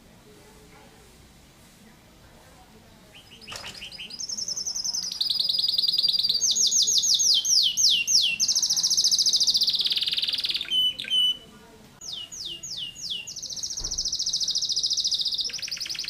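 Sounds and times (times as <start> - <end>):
canary singing: 3.0 - 16.0.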